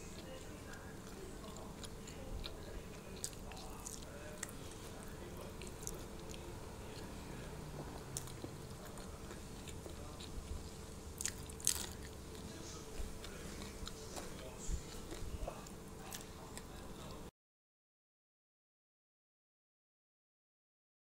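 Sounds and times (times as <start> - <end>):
person chewing crunchy food: 0.0 - 17.2.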